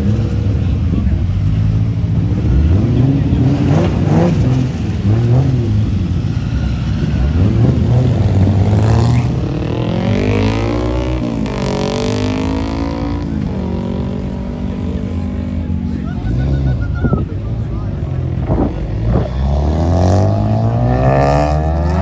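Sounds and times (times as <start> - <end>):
car engine revving and accelerating: 0.0 - 22.0.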